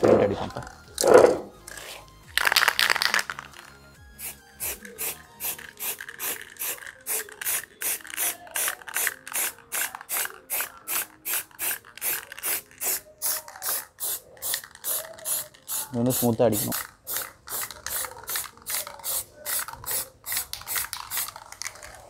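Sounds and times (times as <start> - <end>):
spray can hissing in bursts: 4.1 - 22.0.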